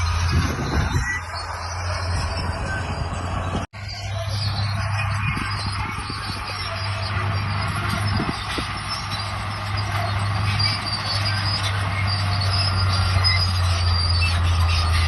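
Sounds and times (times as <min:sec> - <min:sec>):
bulldozer diesel engine running: 0:00.0 - 0:15.0
metallic squeaks from steel tracks: 0:00.0 - 0:15.0.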